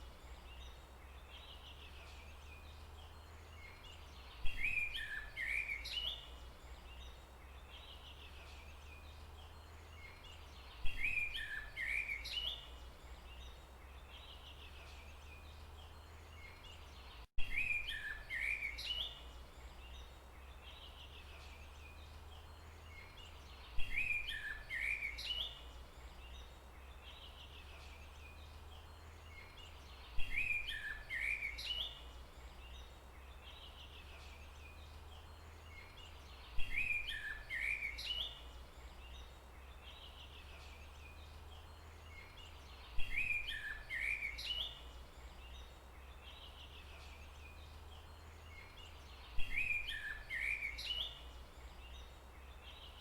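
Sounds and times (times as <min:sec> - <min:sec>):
songbird chirping phrase: 0:00.0 - 0:53.0.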